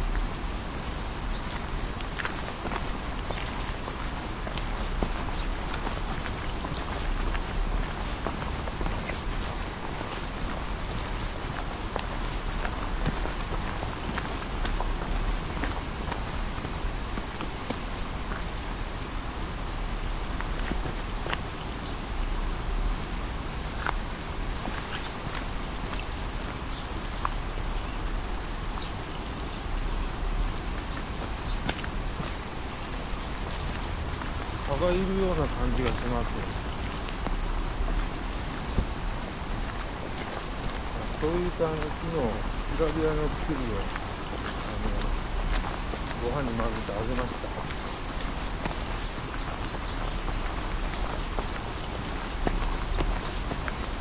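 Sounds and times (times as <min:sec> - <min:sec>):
raindrops ticking: 0:00.0 - 0:54.0
steady rain on pavement and foliage: 0:00.0 - 0:54.0.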